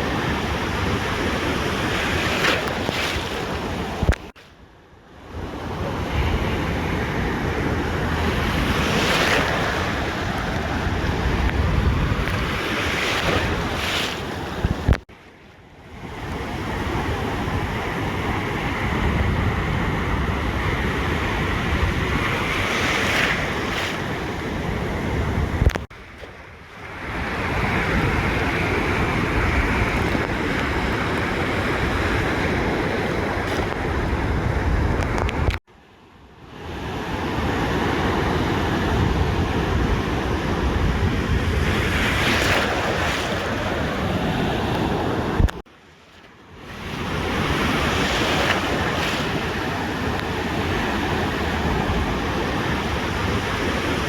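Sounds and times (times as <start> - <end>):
ocean surf washing onto beach: 0.0 - 4.5, 5.2 - 35.6, 36.3 - 54.0.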